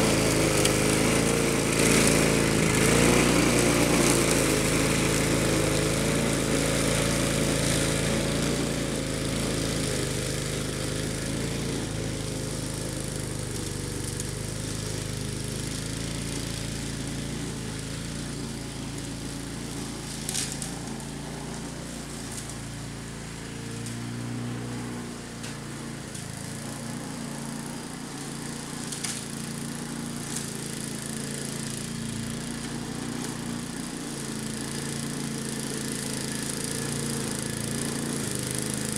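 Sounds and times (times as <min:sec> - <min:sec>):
lawn mower running: 0:00.0 - 0:38.9.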